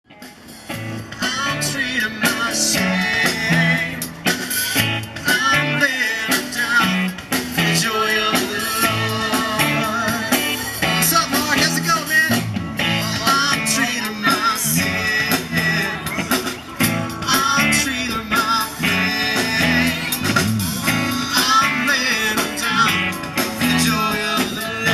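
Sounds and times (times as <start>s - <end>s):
guitar with steady beat: 0.1s - 24.9s
person singing: 1.1s - 24.9s.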